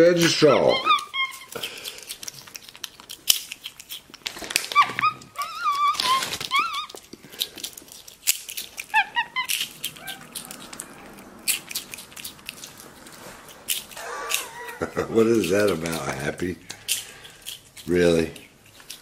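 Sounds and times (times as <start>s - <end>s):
monkey crunching snacks: 0.0s - 19.0s
monkey squeaking: 0.0s - 19.0s
snack bag rustling: 0.2s - 19.0s.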